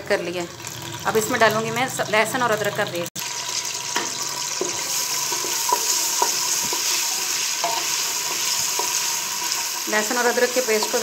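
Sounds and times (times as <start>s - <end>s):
paste sizzling in hot oil: 0.5s - 11.0s.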